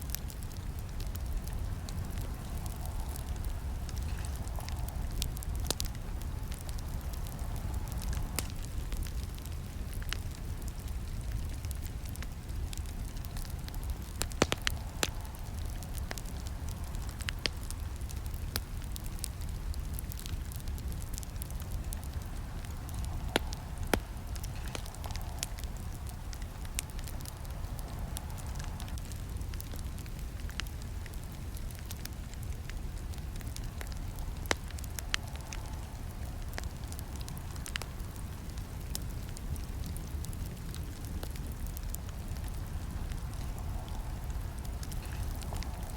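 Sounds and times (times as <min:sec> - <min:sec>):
campfire crackling: 0:00.0 - 0:45.9
low rumble of flames: 0:00.0 - 0:45.9
sharp pops from fire: 0:00.0 - 0:45.9.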